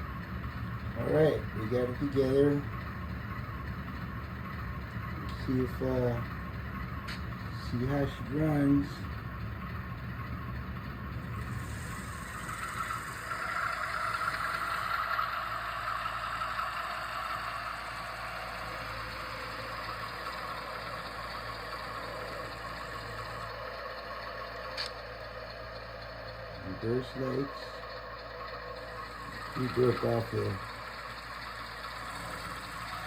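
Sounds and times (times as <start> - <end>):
model locomotive diesel engine sound: 0.0 - 33.0.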